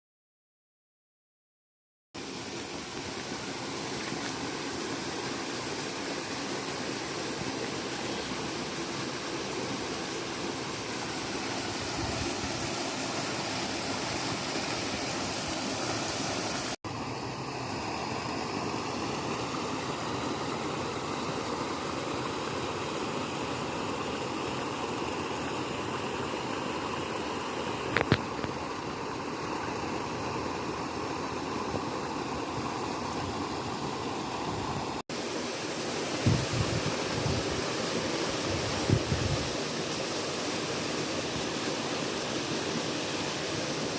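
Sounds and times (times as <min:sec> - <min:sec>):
flowing river water: 0:02.2 - 0:43.9.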